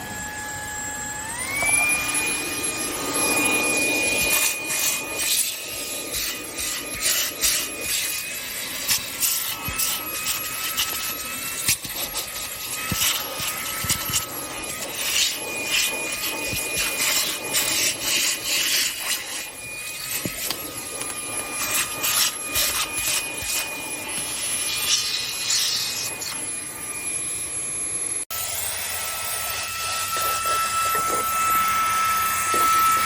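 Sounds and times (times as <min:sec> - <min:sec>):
handheld vacuum motor whine: 0:00.0 - 0:33.0
vacuum nozzle scraping a surface: 0:01.3 - 0:26.6, 0:29.3 - 0:33.0.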